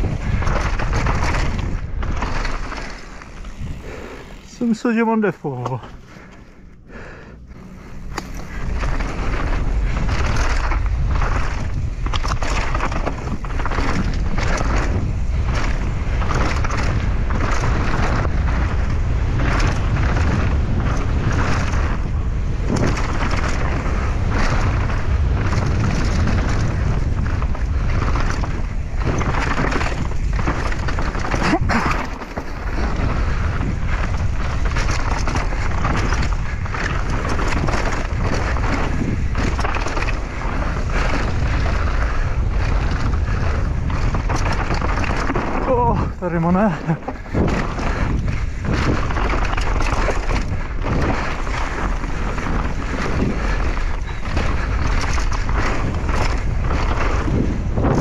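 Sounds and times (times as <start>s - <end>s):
bike tyres clattering over rocks: 0.0s - 6.4s, 8.0s - 58.0s
wind rushing over microphone: 0.0s - 58.0s.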